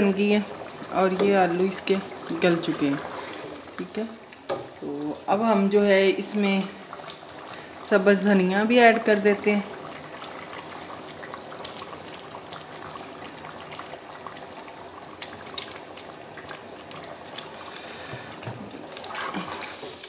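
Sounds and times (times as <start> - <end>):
curry bubbling at a simmer: 0.0 - 20.0.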